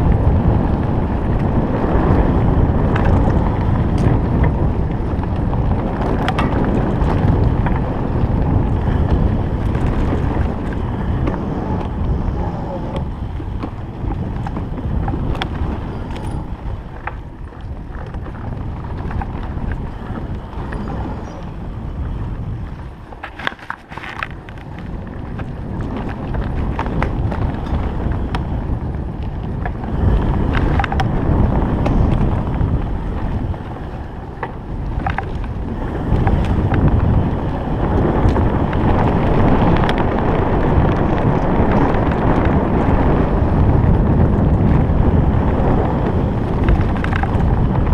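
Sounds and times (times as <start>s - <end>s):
bike clicks and knocks: 0.0s - 47.9s
wind rumbling on microphone: 0.0s - 47.9s.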